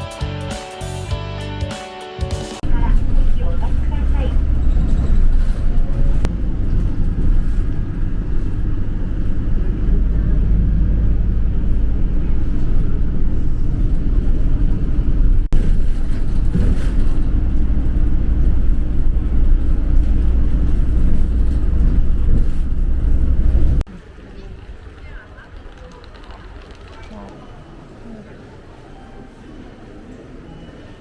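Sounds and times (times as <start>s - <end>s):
low vehicle rumble: 2.6s - 28.4s.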